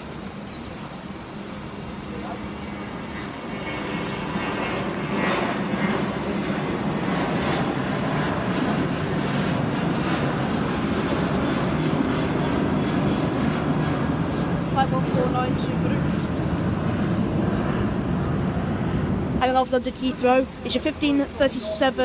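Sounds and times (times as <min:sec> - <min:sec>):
jet engines roaring overhead: 0:00.0 - 0:22.0.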